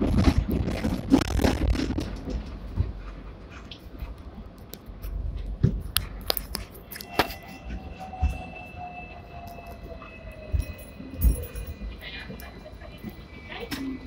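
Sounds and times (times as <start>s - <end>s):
tram running on rails: 0.0s - 14.0s.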